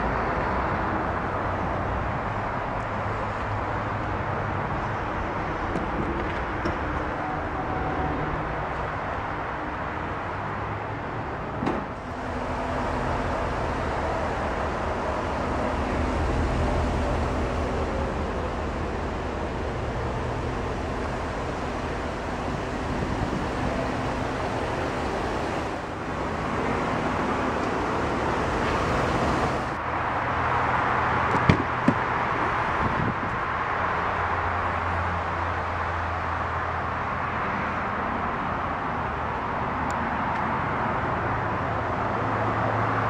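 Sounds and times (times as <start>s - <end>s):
traffic rumble and hiss: 0.0s - 43.0s.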